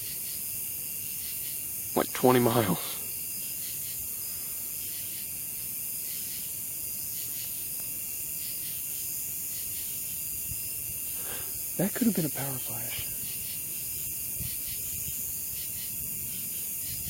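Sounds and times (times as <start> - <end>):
night insects chorus: 0.0 - 17.0.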